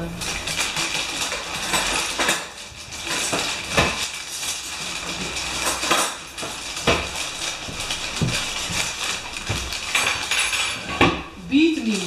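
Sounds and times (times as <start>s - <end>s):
paper wrapping crinkling: 0.2s - 10.8s, 11.7s - 12.0s.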